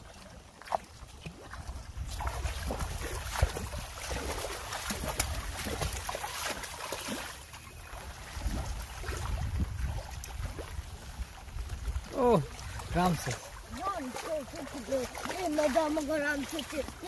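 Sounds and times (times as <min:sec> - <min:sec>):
water splashing and trickling: 0:00.0 - 0:17.0
wind rumbling on microphone: 0:00.9 - 0:17.0.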